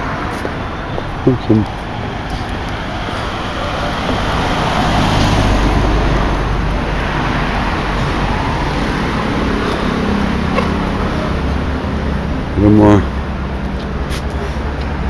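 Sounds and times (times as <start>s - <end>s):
bus engine drone: 0.0s - 15.0s
road traffic tyre noise: 0.0s - 15.0s.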